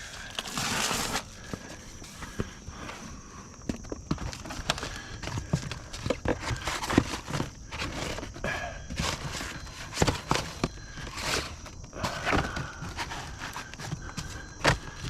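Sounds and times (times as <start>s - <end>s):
membrane rustling and scuffing: 0.2s - 15.0s.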